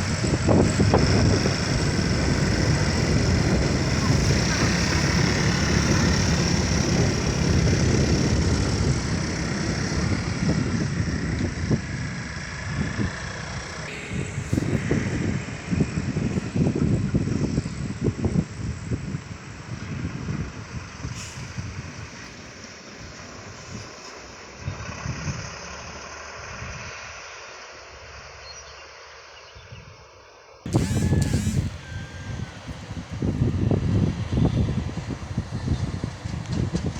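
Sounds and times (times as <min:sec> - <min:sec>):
heavy vehicle engine rumble: 0:00.0 - 0:29.3, 0:30.7 - 0:36.9.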